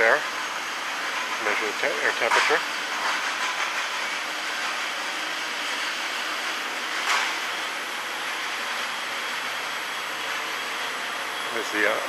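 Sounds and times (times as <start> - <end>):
burners and fan rushing hiss: 0.0 - 12.0.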